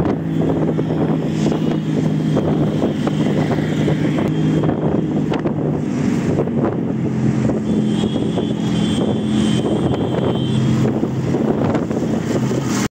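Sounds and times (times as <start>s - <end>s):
road and wind noise: 0.0s - 12.9s
vehicle engine running: 0.0s - 12.9s.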